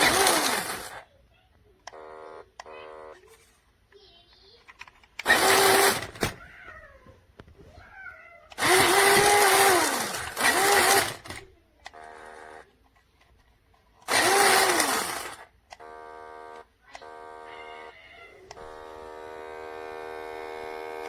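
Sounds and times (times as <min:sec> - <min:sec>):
toy electric motor whirring: 0:00.0 - 0:01.2, 0:01.8 - 0:03.5, 0:04.5 - 0:06.4, 0:08.5 - 0:21.0.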